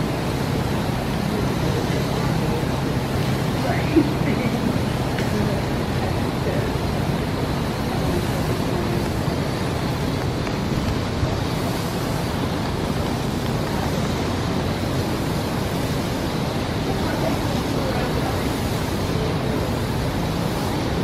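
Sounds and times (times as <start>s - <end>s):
hose spraying water: 0.0s - 21.0s
water splashing on concrete: 0.0s - 21.0s.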